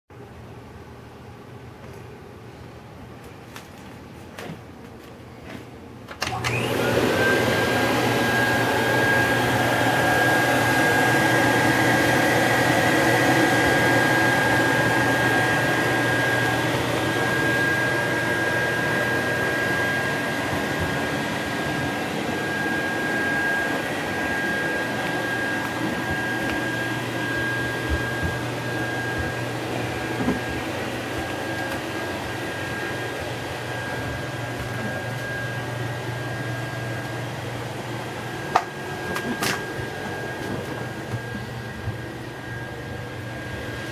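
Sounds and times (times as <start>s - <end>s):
vacuum cleaner motor whine: 6.2s - 43.9s.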